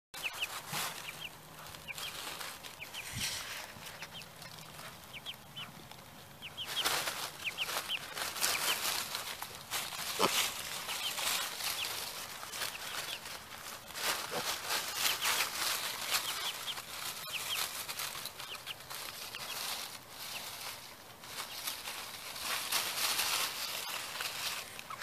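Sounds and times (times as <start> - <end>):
chick peeping: 0.2 - 25.0
dry leaves and hay rustling: 0.2 - 25.0.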